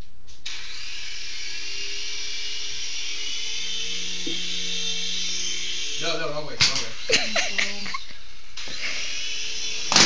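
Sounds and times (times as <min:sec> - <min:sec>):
toy helicopter motors whirring: 0:00.4 - 0:10.0.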